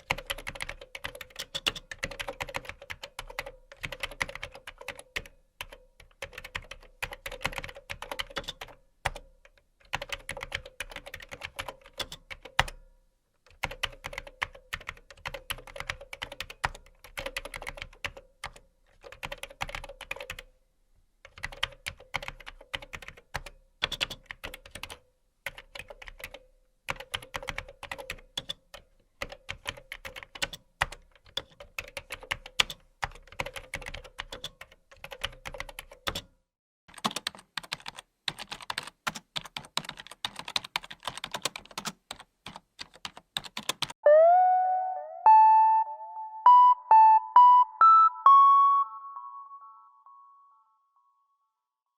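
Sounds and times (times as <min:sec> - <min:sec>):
fast typing on a keyboard: 0:00.0 - 0:12.8, 0:13.5 - 0:20.5, 0:21.3 - 0:36.3, 0:36.9 - 0:44.0.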